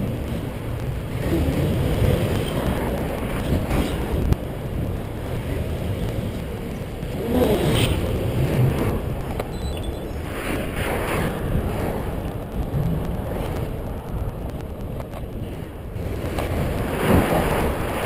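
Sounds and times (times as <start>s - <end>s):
bicycle road rumble: 0.0s - 18.0s
wind noise on microphone: 0.0s - 18.0s.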